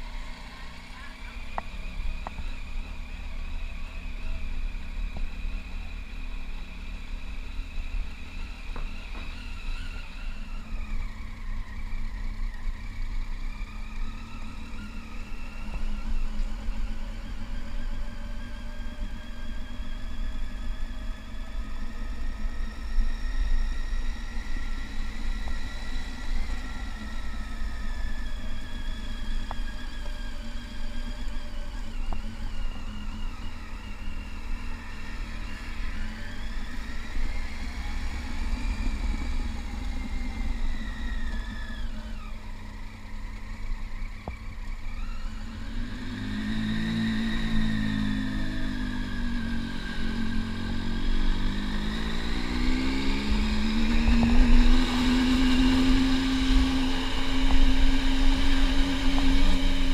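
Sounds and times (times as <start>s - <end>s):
motorcycle engine whine: 0.0s - 59.9s.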